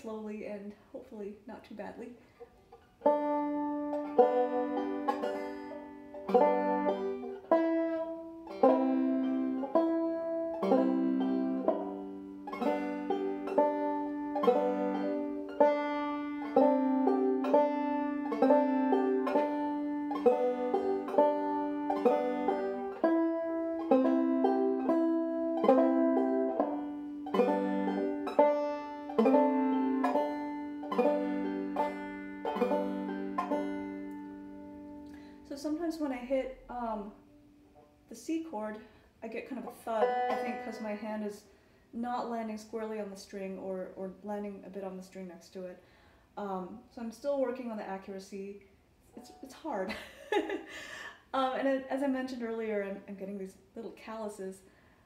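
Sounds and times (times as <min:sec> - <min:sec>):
banjo strummed and plucked: 0:00.0 - 0:45.7, 0:49.1 - 0:50.6, 0:51.4 - 0:54.5.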